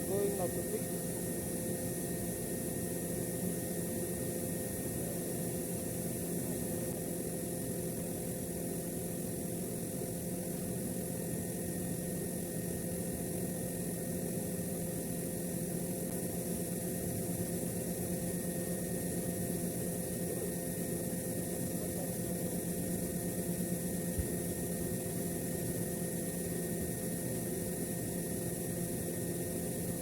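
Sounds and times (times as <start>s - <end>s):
mechanical hum with tones: 0.0s - 30.0s.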